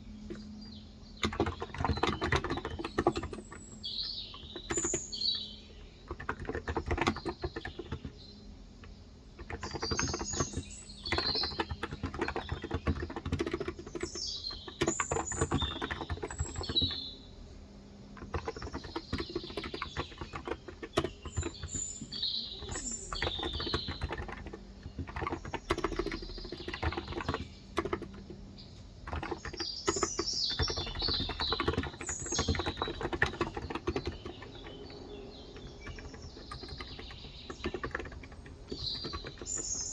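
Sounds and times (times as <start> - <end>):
birds chirping: 0.0 - 39.9
keyboard typing: 0.2 - 8.2, 8.8 - 17.2, 18.1 - 39.9.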